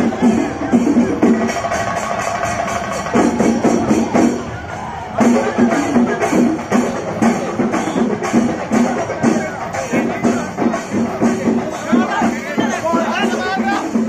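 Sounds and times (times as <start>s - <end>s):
drums playing fast beat: 0.0s - 14.0s.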